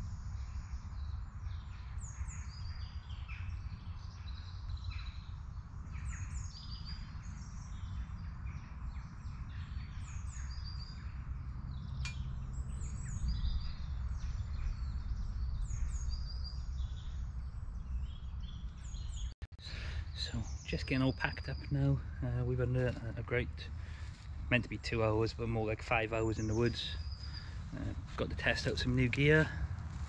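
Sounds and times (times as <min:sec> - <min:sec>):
birds chirping and trilling: 0:00.0 - 0:30.0
steady low rumble: 0:04.8 - 0:30.0.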